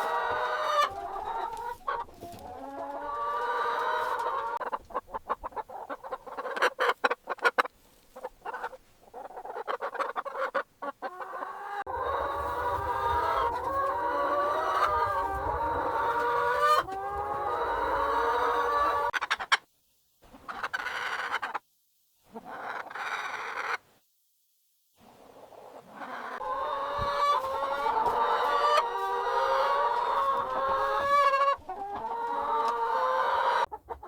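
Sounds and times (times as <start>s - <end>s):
chickens clucking: 0.0s - 21.6s, 22.3s - 23.8s, 25.1s - 34.0s.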